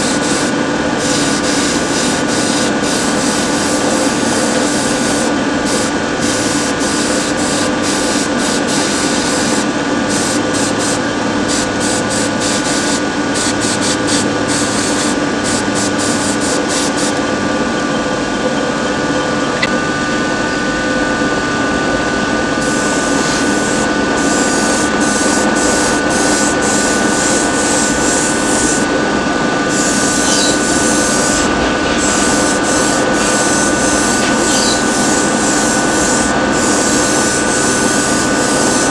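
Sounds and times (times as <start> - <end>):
paint spray hissing bursts: 0.0 - 17.2, 22.6 - 28.9, 29.7 - 38.9
motor humming: 0.0 - 38.9.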